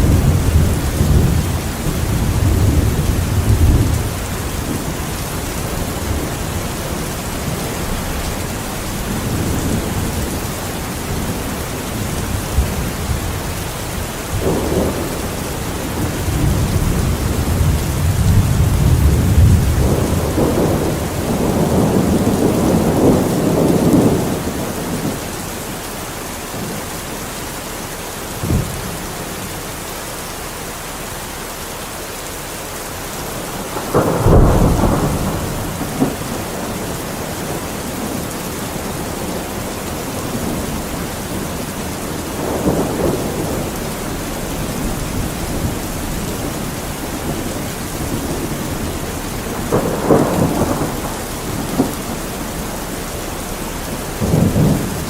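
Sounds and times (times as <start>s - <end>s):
thunder rumbling and clapping: 0.0s - 25.4s, 33.2s - 55.0s
steady rainfall: 0.0s - 55.0s.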